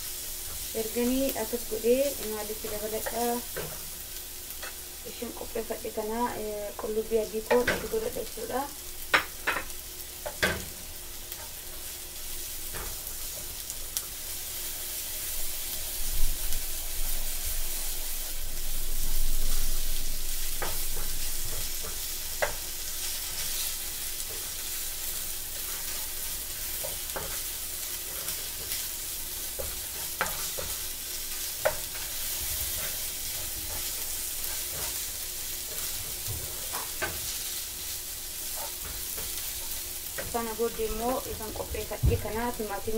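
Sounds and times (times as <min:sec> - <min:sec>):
onions sizzling in frying pan: 0:00.0 - 0:42.9.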